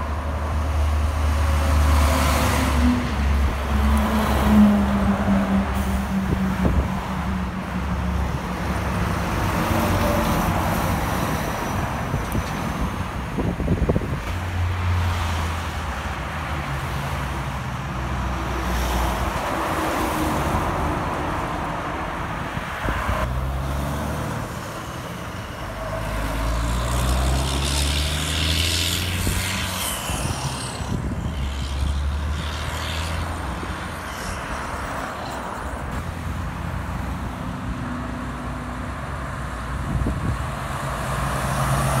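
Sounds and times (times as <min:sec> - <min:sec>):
trucks and cars passing: 0:00.0 - 0:42.0
tyre and road noise: 0:00.0 - 0:42.0.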